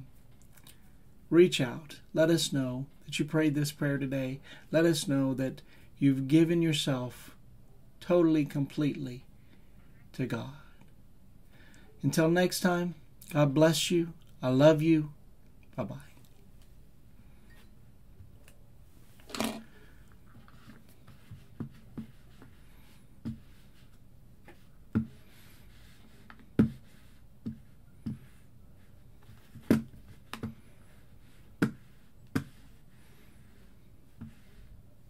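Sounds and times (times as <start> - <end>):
faint room hum: 0.0 - 35.0.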